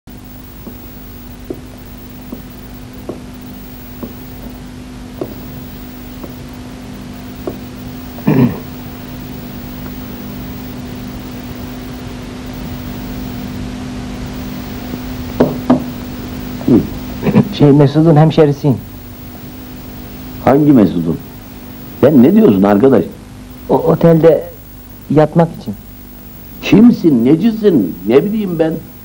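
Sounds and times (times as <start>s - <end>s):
film soundtrack hum and hiss: 0.1s - 29.0s.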